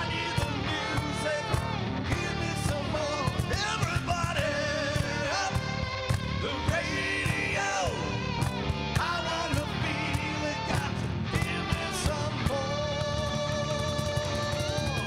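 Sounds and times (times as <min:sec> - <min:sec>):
bass: 0:00.0 - 0:15.0
electric guitar bending notes: 0:00.0 - 0:15.0
steady drum beat: 0:00.0 - 0:15.0.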